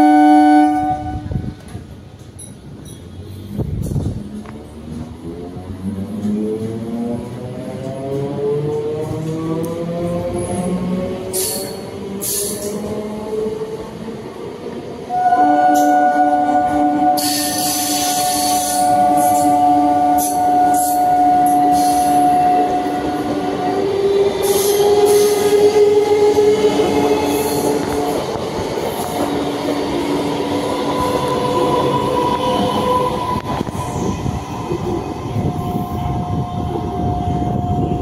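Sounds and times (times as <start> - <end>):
moving train noise: 0.0 - 38.0.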